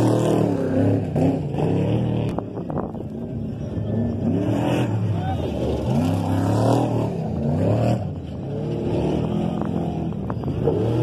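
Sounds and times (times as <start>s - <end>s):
truck engines revving hard: 0.0s - 11.0s.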